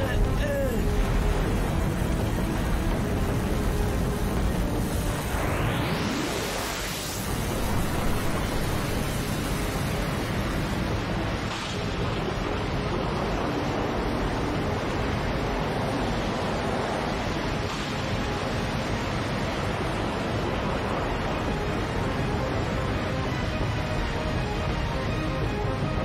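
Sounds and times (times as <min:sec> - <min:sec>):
heavy surf: 0:00.0 - 0:26.0.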